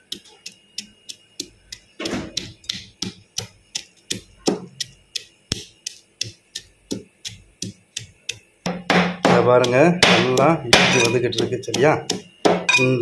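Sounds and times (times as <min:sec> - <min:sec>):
pestle pounding in mortar: 0:00.0 - 0:13.0.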